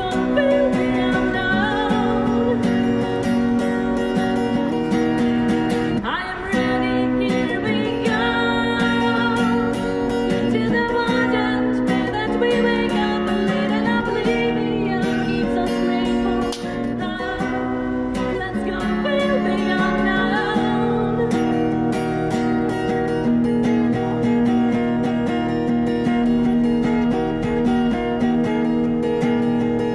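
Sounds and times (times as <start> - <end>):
woman singing through an amp: 0.0 - 25.5
acoustic guitar strumming: 0.0 - 29.9.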